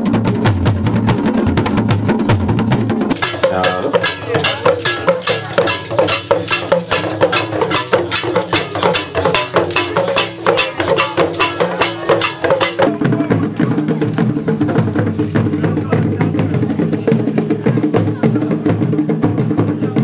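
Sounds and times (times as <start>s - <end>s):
dull deep drum: 0.0s - 20.0s
loud drumming: 0.0s - 20.0s.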